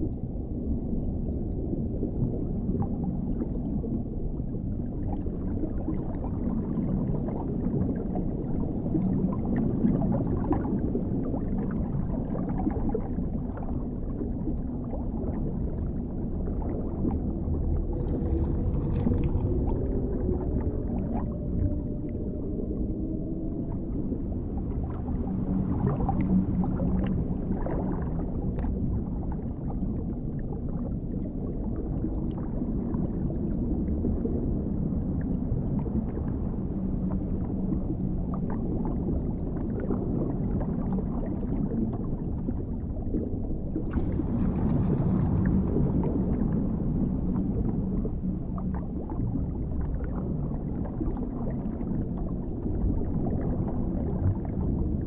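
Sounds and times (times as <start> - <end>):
deep muffled underwater rumble: 0.0 - 55.0
faint drawn-out low tones: 7.5 - 55.0.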